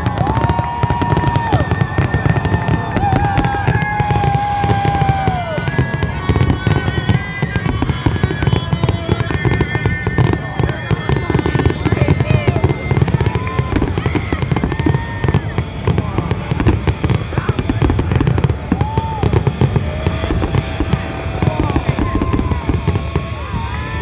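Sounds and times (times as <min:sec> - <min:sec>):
fireworks shell bursts and crackles: 0:00.0 - 0:23.9.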